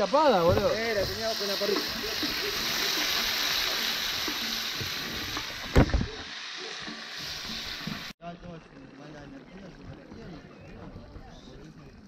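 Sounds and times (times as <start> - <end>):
stew sizzling and bubbling: 0.0 - 12.0.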